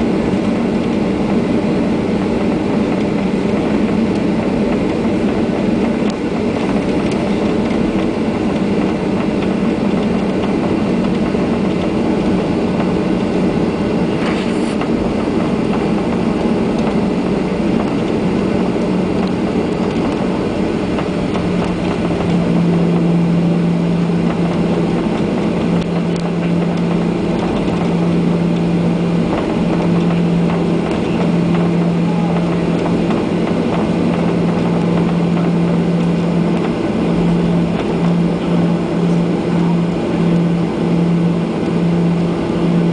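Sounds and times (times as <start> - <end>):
jet engine cabin hum: 0.0 - 42.9.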